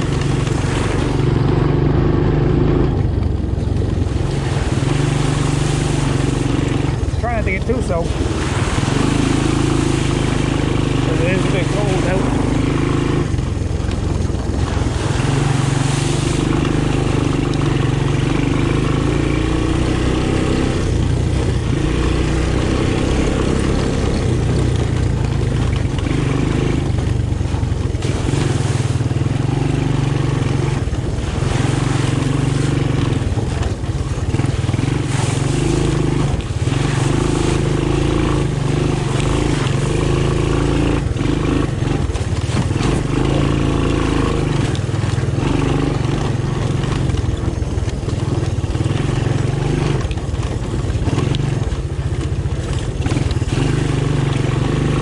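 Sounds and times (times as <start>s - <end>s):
three-wheeler engine running: 0.0s - 55.0s.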